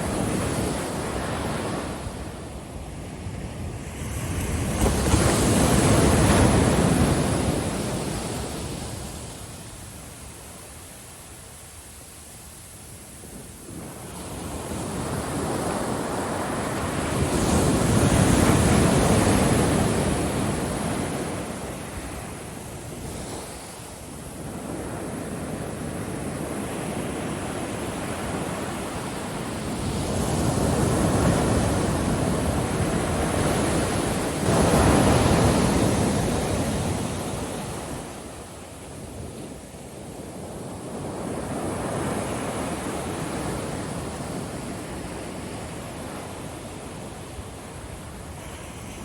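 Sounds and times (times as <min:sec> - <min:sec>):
ocean waves breaking on beach: 0:00.0 - 0:49.0.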